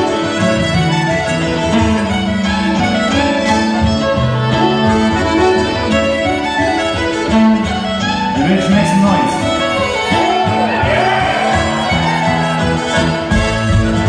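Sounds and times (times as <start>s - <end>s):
accordion: 0.0s - 14.0s
fiddle melody: 0.0s - 14.0s
strummed acoustic guitar: 0.0s - 14.0s.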